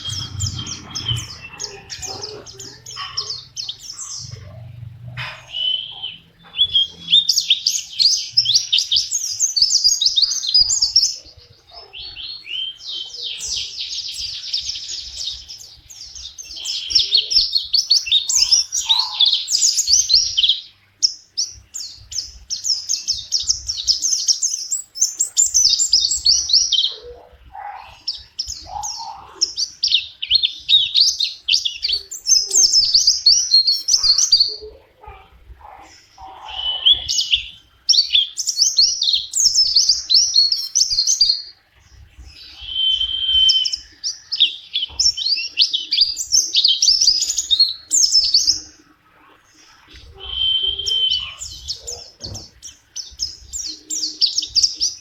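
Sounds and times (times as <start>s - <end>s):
bird singing high-pitched twitters: 0.0s - 48.8s, 49.6s - 55.0s.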